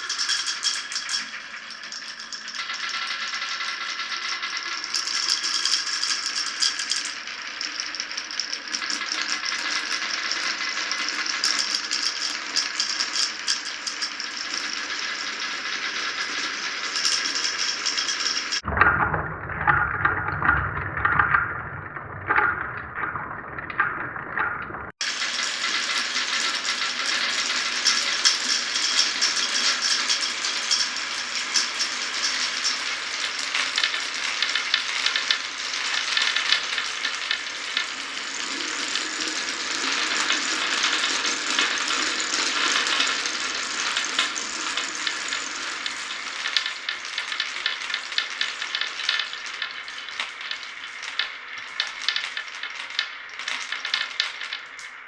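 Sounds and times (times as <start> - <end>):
marbles rolling on wooden track: 0.0 - 55.0
rattle of many marbles: 0.0 - 55.0.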